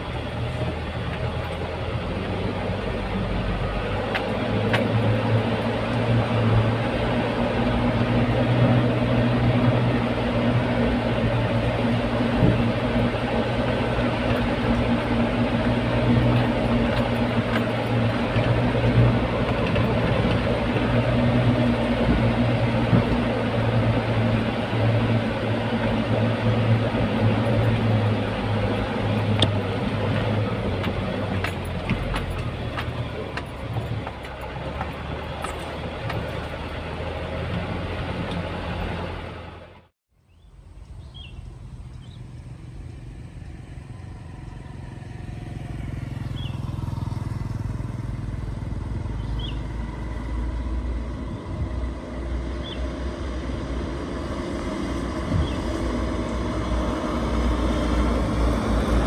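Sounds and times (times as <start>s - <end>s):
truck diesel engine droning: 0.0s - 59.0s.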